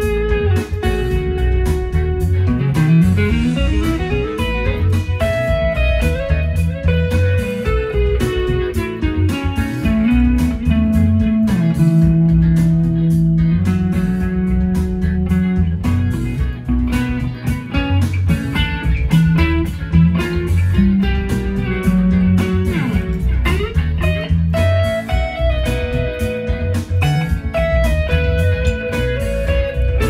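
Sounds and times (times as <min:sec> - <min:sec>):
bass: 0:00.0 - 0:30.0
drum beat: 0:00.0 - 0:30.0
electric guitar lead: 0:00.0 - 0:30.0.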